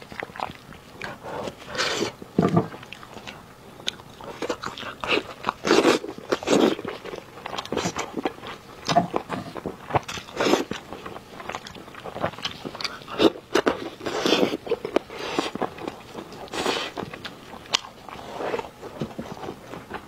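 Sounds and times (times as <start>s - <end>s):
person chewing with smacks and crunches: 0.0s - 20.0s.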